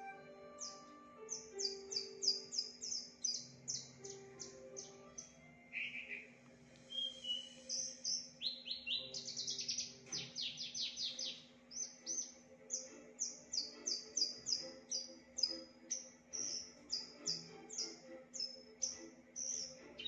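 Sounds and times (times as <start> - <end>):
bird singing trills and whistles: 0.5 - 20.0.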